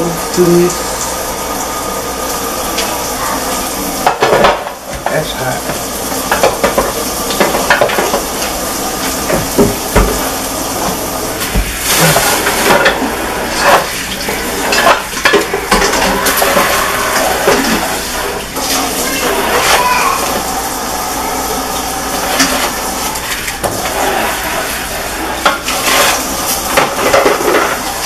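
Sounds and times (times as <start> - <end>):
frying sizzle: 0.0 - 28.0
pots and utensils clattering: 2.7 - 28.0.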